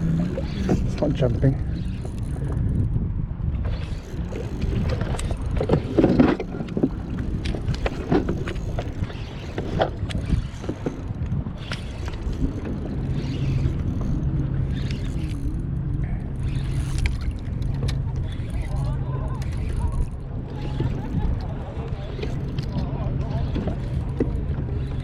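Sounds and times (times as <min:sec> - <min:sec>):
steady low hum: 0:00.0 - 0:25.0
wind rumble: 0:00.0 - 0:25.0.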